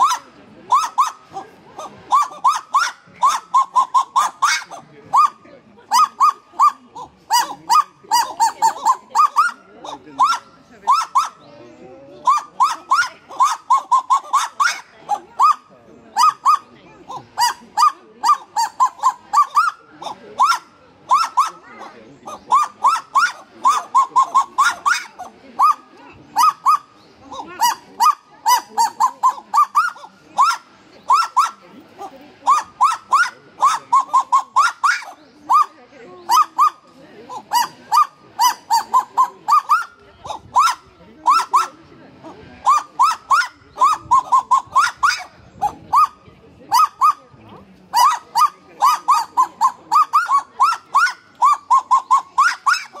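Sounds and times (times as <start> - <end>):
birds yelping in duet: 0.0 - 53.0.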